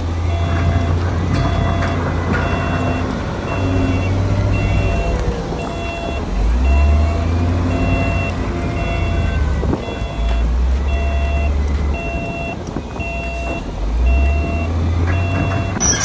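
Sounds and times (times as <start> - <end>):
diesel engine rumble: 0.0 - 16.0
reversing alarm beeping: 0.1 - 16.0.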